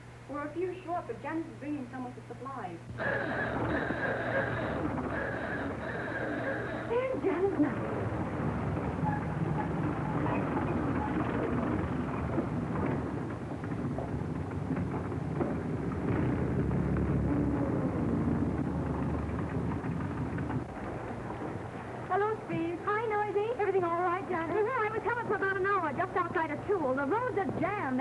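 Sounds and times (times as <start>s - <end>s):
film soundtrack hiss: 0.0s - 28.0s
vehicle engine rumbling: 3.0s - 27.9s.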